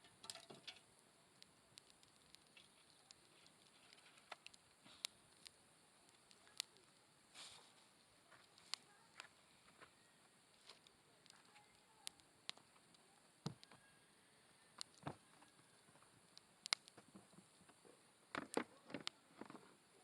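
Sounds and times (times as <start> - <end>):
campfire crackling and popping: 0.0 - 13.8, 14.7 - 20.0.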